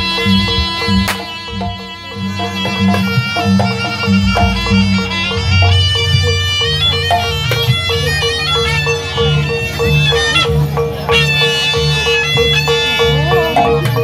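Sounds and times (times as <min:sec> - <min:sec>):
low drums: 0:00.0 - 0:14.0
reedy shawm melody: 0:00.0 - 0:14.0
tuned percussion: 0:00.0 - 0:14.0.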